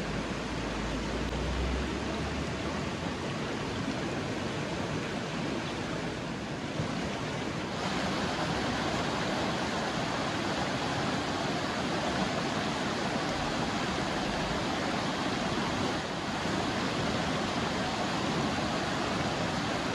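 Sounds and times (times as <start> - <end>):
river rushing: 0.0 - 19.9.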